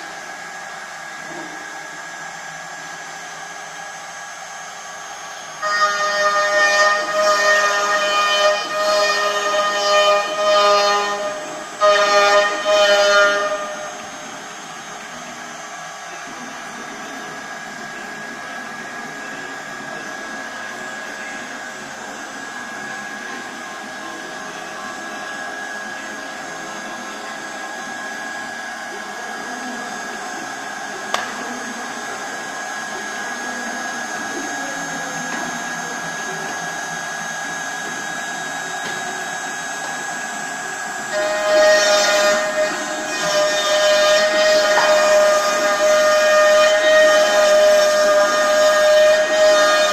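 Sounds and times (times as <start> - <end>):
router spindle motor whining: 0.0 - 49.9.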